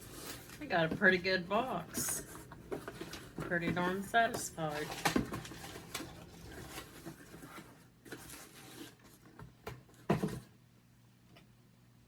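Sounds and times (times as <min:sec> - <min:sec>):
objects rustling and knocking: 0:00.0 - 0:10.6.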